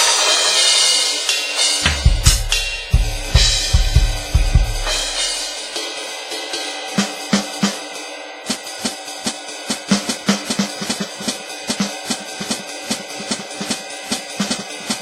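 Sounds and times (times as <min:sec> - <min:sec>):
electronic drum kit groove: 0:00.0 - 0:15.0
hi-hat and cymbal sounds: 0:00.0 - 0:15.0.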